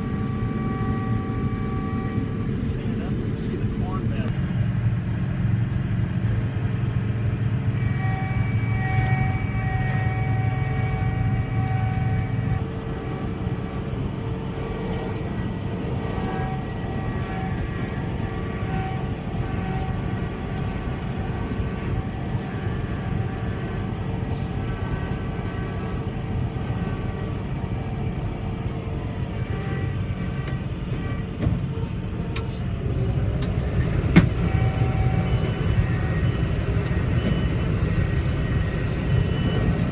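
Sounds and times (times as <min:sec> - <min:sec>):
machine whining tones: 0:00.0 - 0:04.3, 0:07.6 - 0:39.9
diesel engine running steadily: 0:00.0 - 0:39.9.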